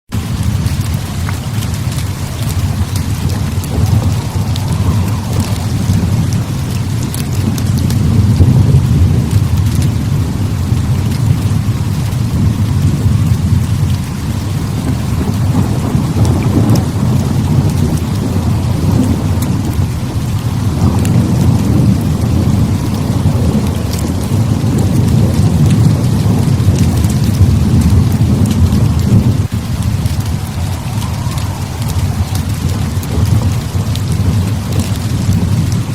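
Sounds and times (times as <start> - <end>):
heavy rain pouring: 0.1 - 35.9
rolling thunder rumble: 0.1 - 35.9.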